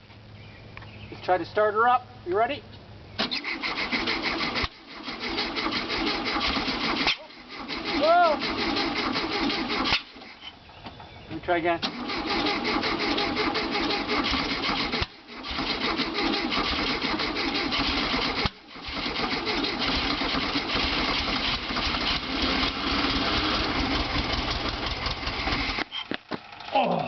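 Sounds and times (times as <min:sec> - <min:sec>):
engine cranking without starting: 0:03.2 - 0:10.5, 0:11.8 - 0:27.0.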